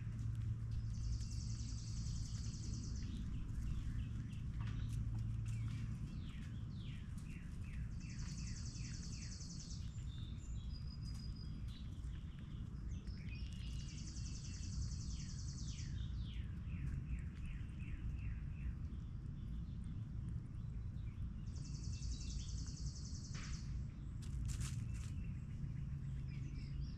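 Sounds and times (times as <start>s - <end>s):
low background rumble: 0.0s - 26.9s
songbirds singing: 0.0s - 26.9s.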